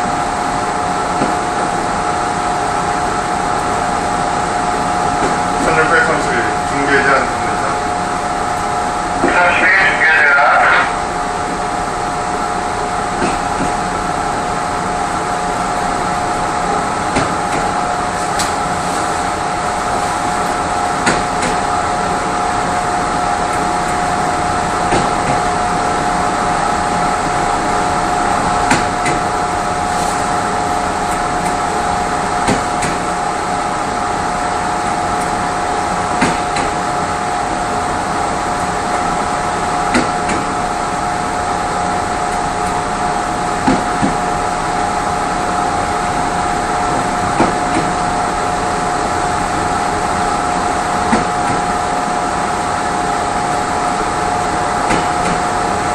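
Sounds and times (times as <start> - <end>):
train running hum: 0.0 - 55.9.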